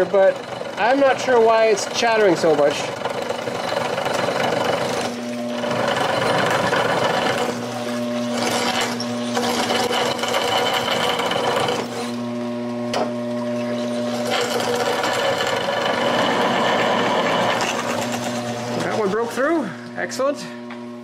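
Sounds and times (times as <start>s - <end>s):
drill cutting metal: 0.0s - 12.3s, 13.2s - 19.6s
spindle humming and whining: 0.0s - 21.0s.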